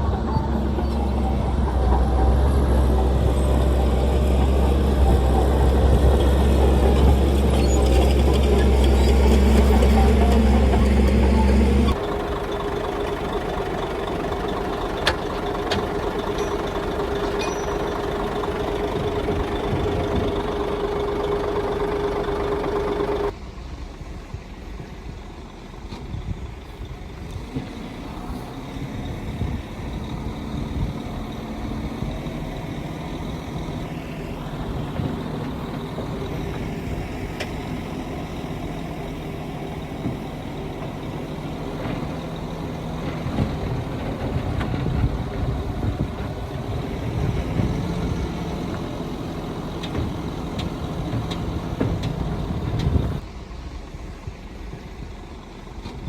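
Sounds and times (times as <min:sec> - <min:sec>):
diesel machinery engines whining: 0:00.0 - 0:56.0
lower quieter engine: 0:00.0 - 0:56.0.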